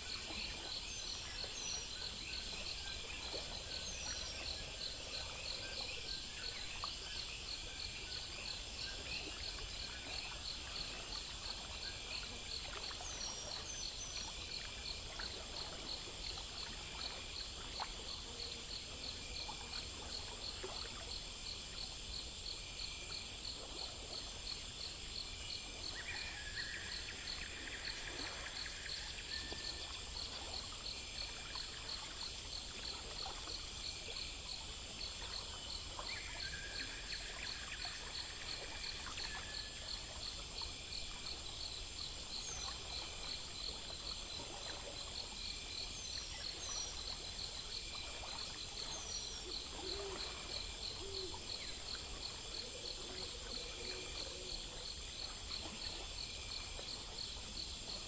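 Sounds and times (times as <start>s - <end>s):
crickets and insects chirping: 0.0s - 58.0s
faint steady hiss: 0.0s - 58.0s.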